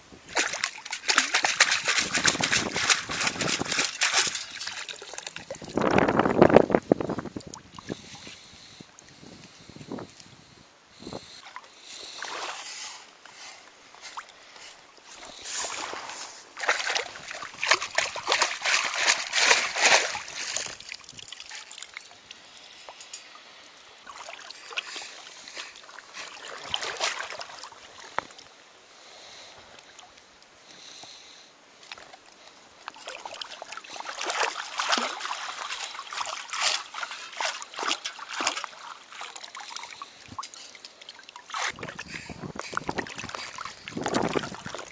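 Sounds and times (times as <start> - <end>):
water splashing and trickling: 0.0 - 9.3, 11.4 - 28.6, 31.8 - 44.9.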